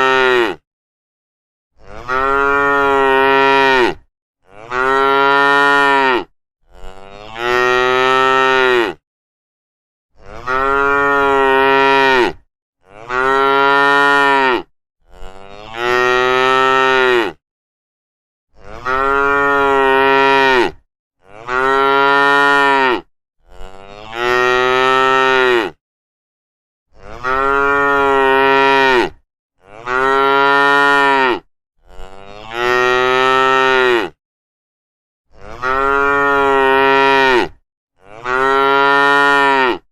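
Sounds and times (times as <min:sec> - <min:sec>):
cow mooing: 0:00.0 - 0:00.6, 0:01.8 - 0:09.0, 0:10.2 - 0:17.4, 0:18.6 - 0:25.8, 0:26.9 - 0:34.2, 0:35.3 - 0:39.9.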